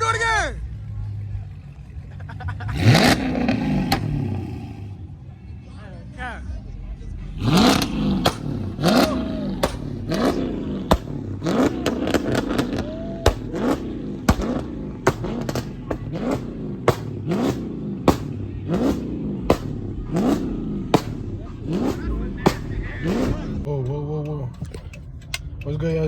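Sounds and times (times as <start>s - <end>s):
car engine revving: 0.0s - 26.0s
exhaust pops: 2.3s - 5.0s, 6.8s - 26.0s.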